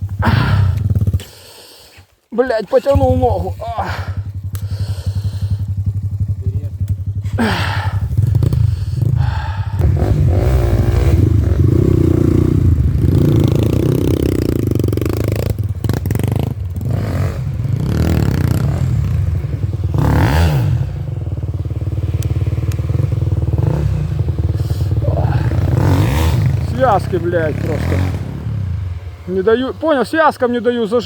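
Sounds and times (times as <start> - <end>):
motorcycle engine running: 0.0 - 1.5, 2.9 - 31.0.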